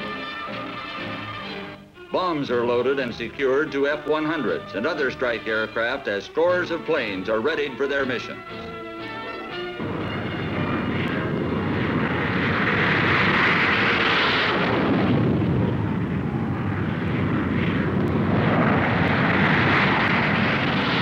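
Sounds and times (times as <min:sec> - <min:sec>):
jet fighters taking off: 0:00.0 - 0:21.0.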